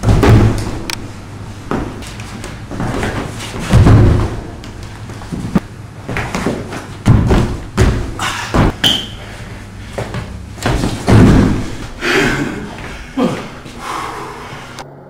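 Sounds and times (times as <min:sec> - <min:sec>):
feet stamping on wooden floor: 0:00.0 - 0:01.0, 0:01.6 - 0:13.8
bodies colliding: 0:00.0 - 0:13.8.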